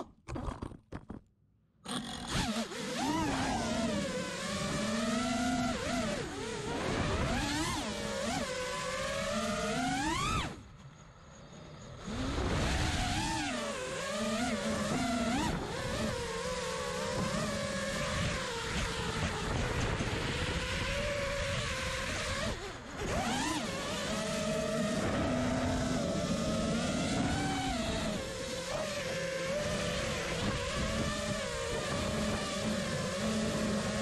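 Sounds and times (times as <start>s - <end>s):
quadcopter motors whining: 1.9s - 34.0s.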